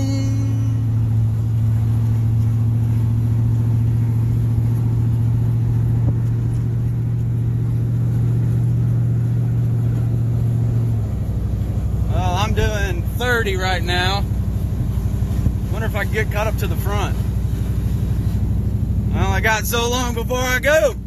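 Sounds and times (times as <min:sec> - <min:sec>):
pickup truck engine and road noise: 0:00.0 - 0:21.0.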